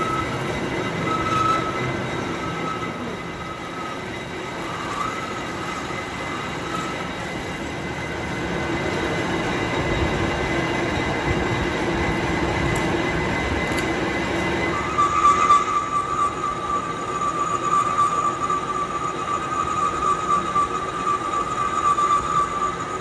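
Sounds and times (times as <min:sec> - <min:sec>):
high-pitched machine whine: 0:00.0 - 0:23.0
workshop machine running: 0:00.0 - 0:23.0.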